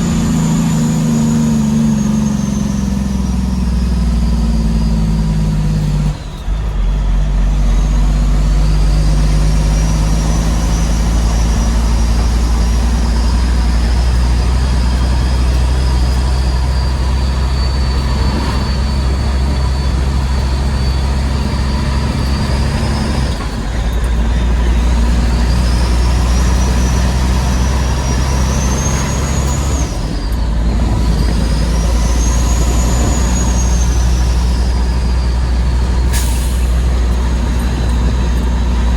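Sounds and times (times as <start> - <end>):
diesel truck engine under load: 0.0 - 38.9
turbo whistle: 0.0 - 38.9.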